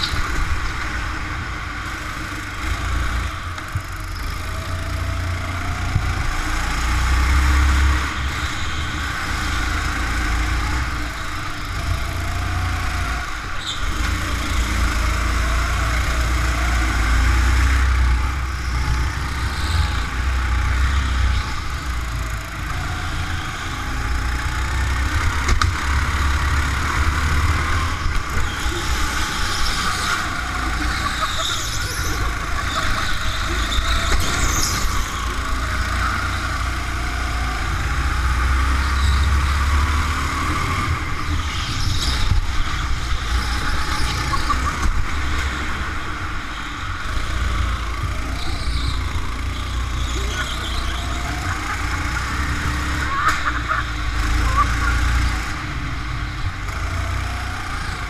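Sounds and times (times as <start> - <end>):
go-kart engines revving: 0.0 - 58.0.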